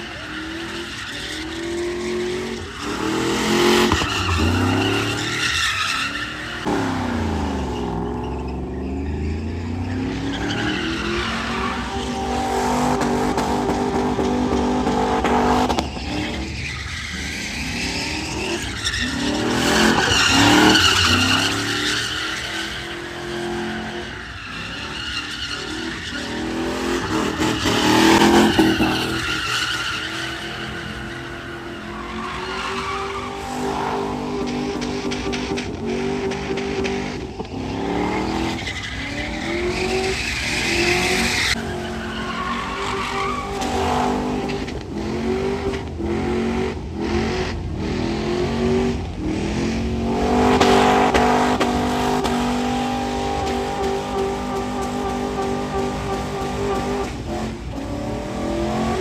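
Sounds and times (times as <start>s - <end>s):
tires squealing on pavement: 0.0s - 59.0s.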